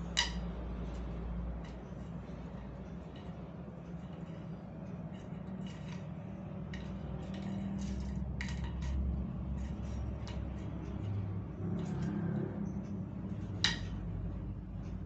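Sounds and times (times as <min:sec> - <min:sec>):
low steady hum: 0:00.0 - 0:15.0
straw clicking on tiles: 0:00.0 - 0:15.0.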